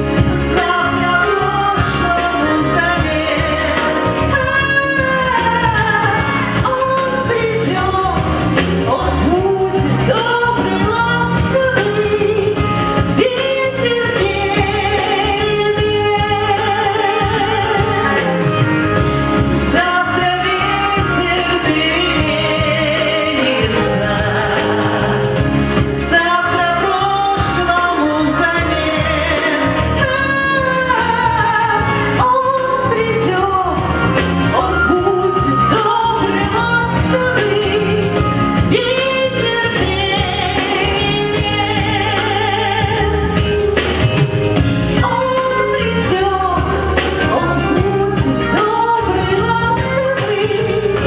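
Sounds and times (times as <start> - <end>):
instrumental accompaniment: 0.0 - 51.0
person singing: 0.0 - 51.0.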